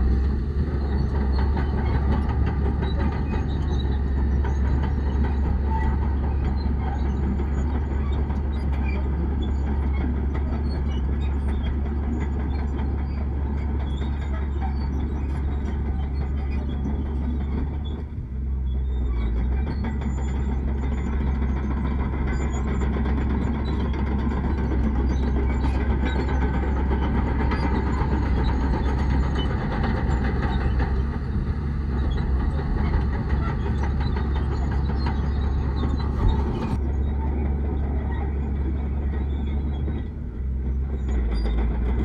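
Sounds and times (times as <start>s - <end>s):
diesel engine deep drone: 0.0s - 42.0s.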